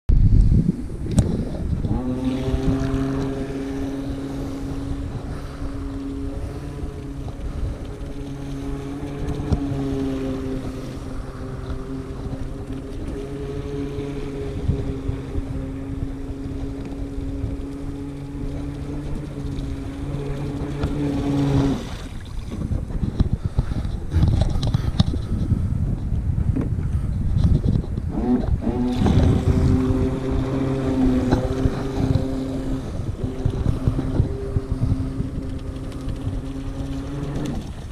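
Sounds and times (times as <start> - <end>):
wind buffeting microphone: 0.1 - 37.9
boat motor running: 0.2 - 37.9.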